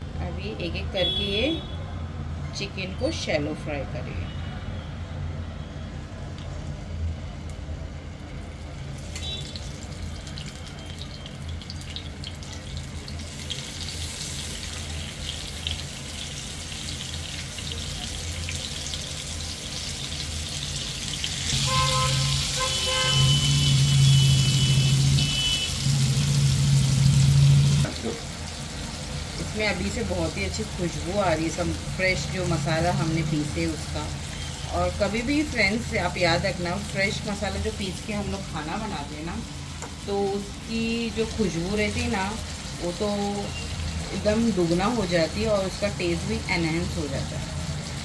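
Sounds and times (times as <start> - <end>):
chicken sizzling in hot oil: 8.2 - 48.0.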